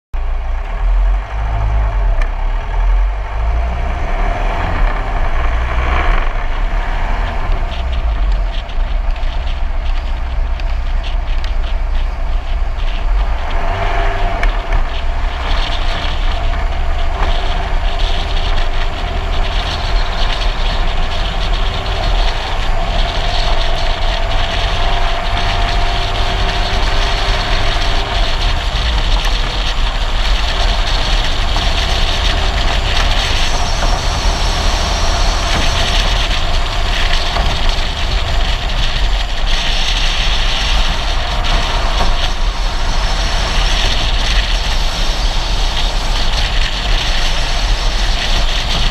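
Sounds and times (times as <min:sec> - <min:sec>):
car road and engine noise: 0:00.2 - 0:48.9
wind rumble on microphone: 0:00.2 - 0:48.9.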